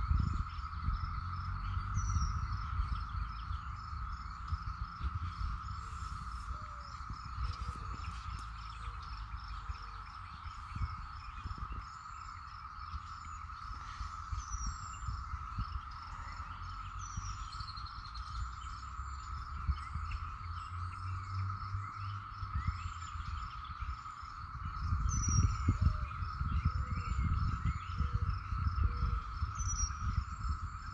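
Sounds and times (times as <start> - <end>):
insect chirping: 0.0 - 30.9
insects droning: 0.0 - 30.9
low rumble: 0.0 - 30.9.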